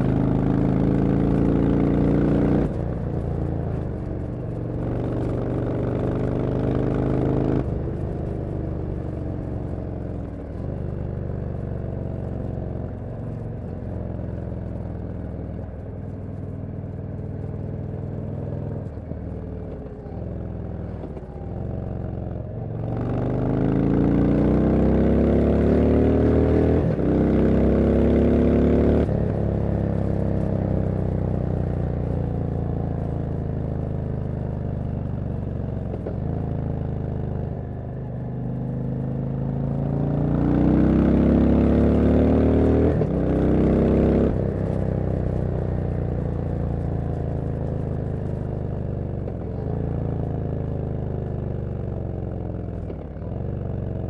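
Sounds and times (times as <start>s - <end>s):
motorcycle exhaust accelerating: 0.0s - 54.0s.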